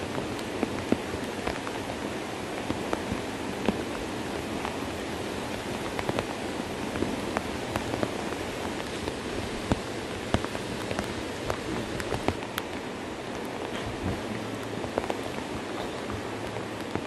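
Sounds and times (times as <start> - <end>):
rain drops ticking: 0.0 - 17.0
steady rain: 0.0 - 17.0.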